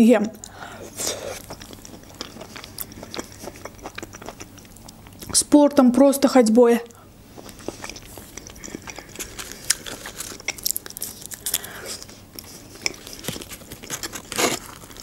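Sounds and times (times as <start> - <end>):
person chewing food: 0.2 - 5.4, 6.9 - 15.0.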